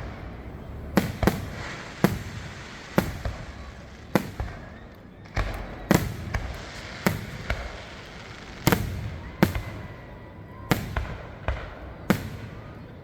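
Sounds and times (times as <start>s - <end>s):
fireworks exploding with booms: 0.0s - 13.0s.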